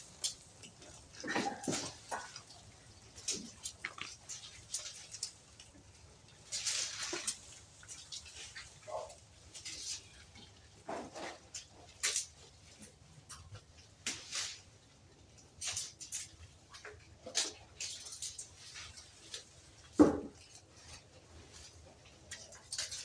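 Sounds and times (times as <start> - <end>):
goats rustling and knocking: 0.0 - 23.0.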